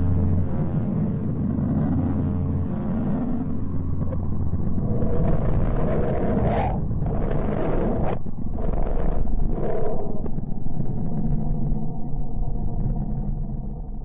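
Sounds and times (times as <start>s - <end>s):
low hum: 0.0s - 14.0s
low rumbling drone: 0.0s - 14.0s.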